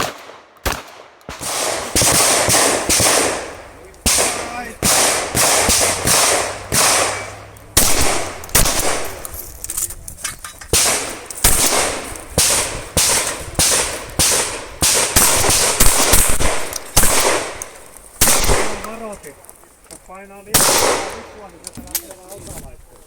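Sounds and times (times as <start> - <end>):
shotgun shots with echo: 0.0 - 9.3, 10.7 - 19.1, 20.5 - 21.4.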